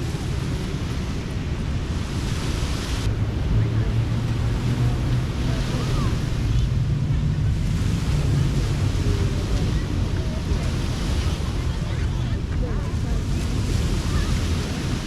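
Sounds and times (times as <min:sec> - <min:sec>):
surf washing onto sand: 0:00.0 - 0:15.0
wind rumbling on microphone: 0:00.0 - 0:15.0.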